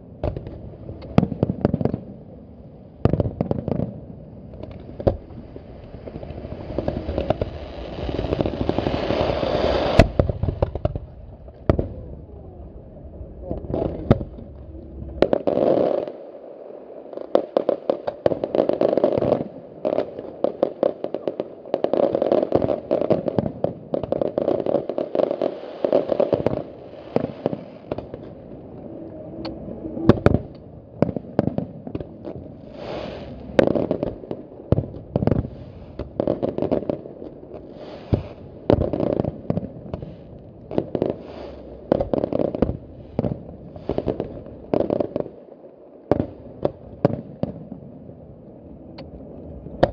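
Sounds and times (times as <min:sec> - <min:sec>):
fireworks crackling and popping: 0:00.0 - 0:28.8, 0:29.4 - 0:49.9.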